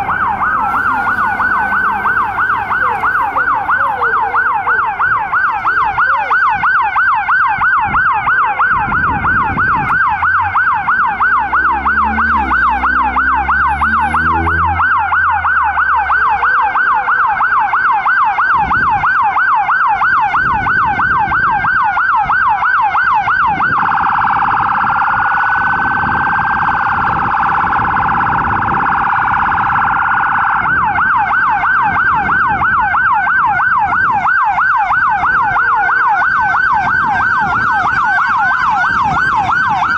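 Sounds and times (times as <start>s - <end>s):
emergency siren yelp and warble: 0.0s - 39.9s.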